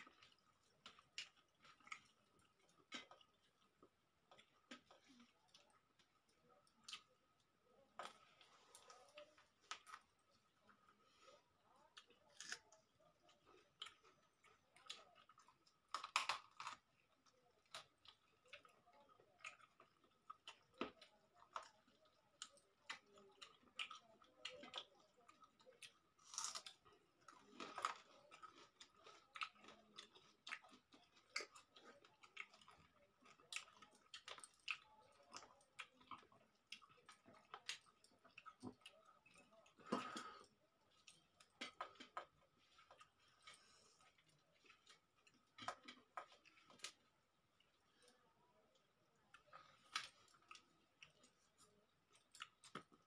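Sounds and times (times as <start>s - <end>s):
people chewing: 0.0s - 53.0s.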